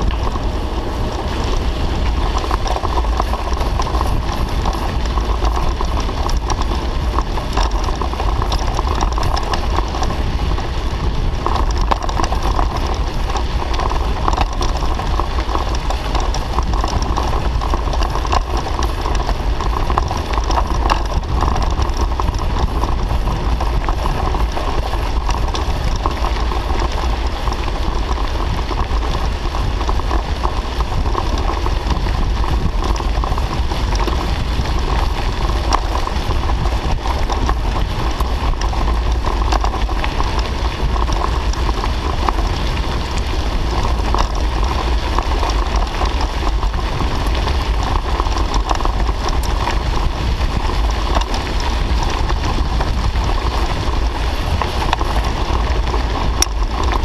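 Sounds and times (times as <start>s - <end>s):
bike rattling: 0.0s - 57.0s
tyres crunching on gravel: 0.0s - 57.0s
wind rumble on microphone: 0.0s - 57.0s.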